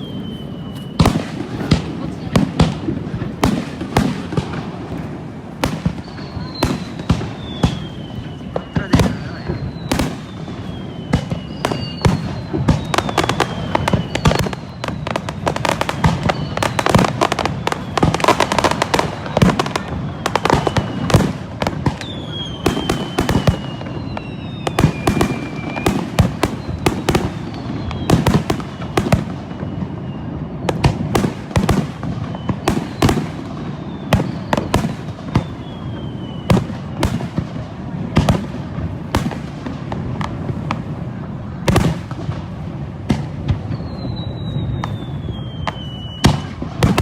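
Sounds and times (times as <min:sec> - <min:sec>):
fireworks bangs and crackling: 0:00.0 - 0:47.0
fireworks whistles: 0:00.0 - 0:47.0.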